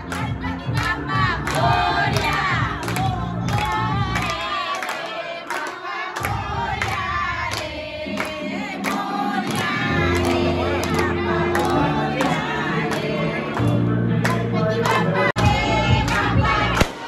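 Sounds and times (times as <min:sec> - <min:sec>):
many voices singing together: 0:00.0 - 0:17.0.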